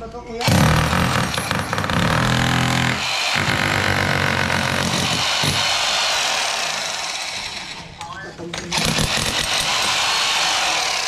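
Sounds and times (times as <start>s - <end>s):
electric drill hammering floor: 0.4s - 8.0s, 8.7s - 11.0s.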